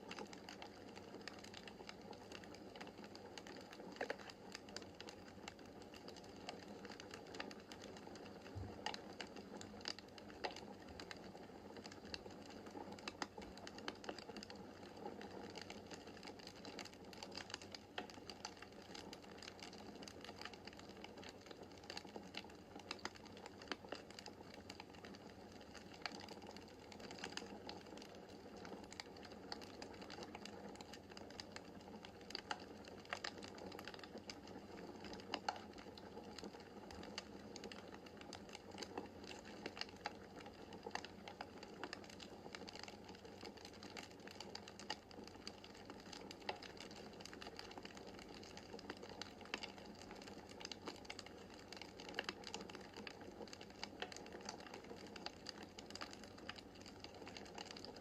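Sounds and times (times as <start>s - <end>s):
crackles and pops from logs: 0.0s - 58.0s.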